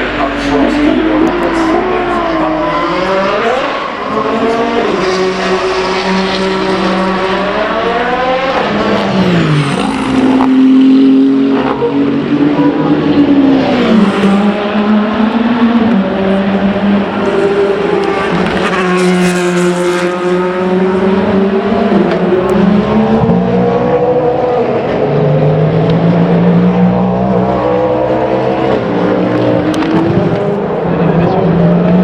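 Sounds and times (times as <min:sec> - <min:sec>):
racing car engines passing: 0:00.0 - 0:32.0.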